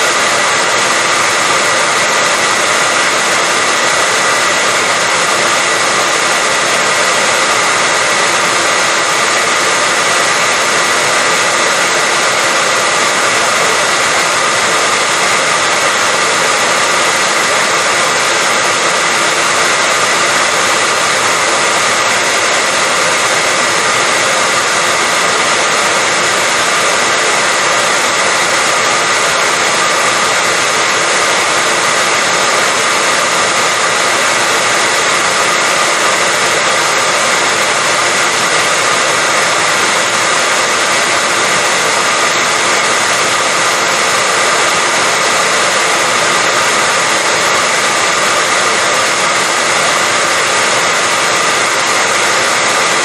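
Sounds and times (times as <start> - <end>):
hair dryer blowing: 0.0 - 53.0.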